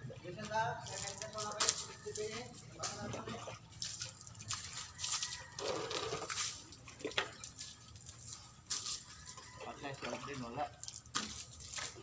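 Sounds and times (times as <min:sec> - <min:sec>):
water spraying and splashing: 0:00.8 - 0:12.0.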